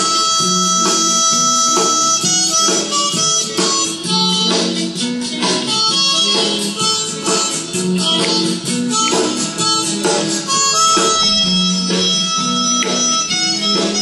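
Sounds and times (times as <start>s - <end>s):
blues harmonica and guitar music: 0.0s - 14.0s.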